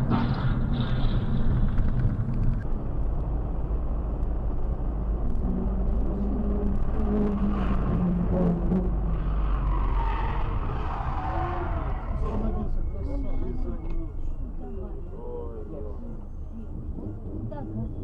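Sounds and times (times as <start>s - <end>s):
vehicle engine and road noise: 0.0s - 18.0s
low engine hum shifting pitch: 2.7s - 18.0s.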